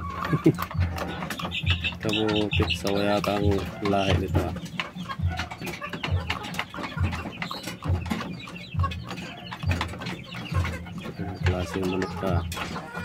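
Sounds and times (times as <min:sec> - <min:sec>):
rooster pecking feed: 0:00.0 - 0:13.0.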